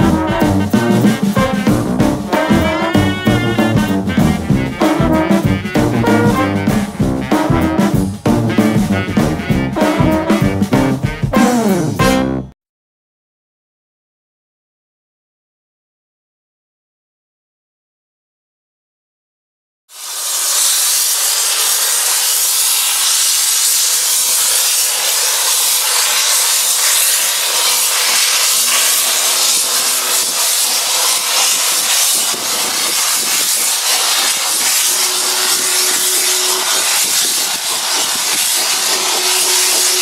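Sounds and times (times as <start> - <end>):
steam locomotive hissing: 0.0 - 12.1, 19.9 - 40.0.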